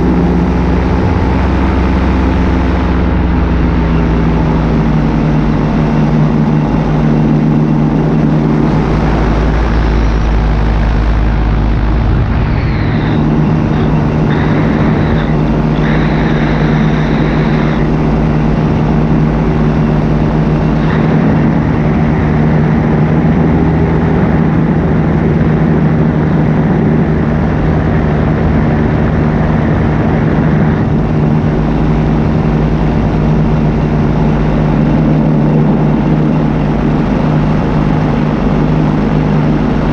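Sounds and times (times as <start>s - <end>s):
high-pitched whine: 0.0s - 39.9s
paramotor engine drone: 0.0s - 39.9s
wind rumble on microphone: 0.0s - 39.9s.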